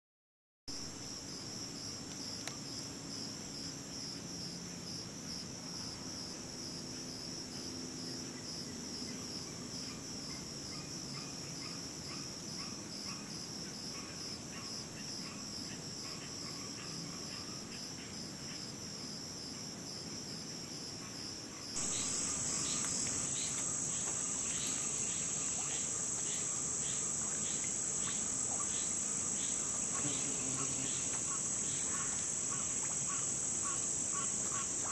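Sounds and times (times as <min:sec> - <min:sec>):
insects trilling: 0:00.8 - 0:34.9.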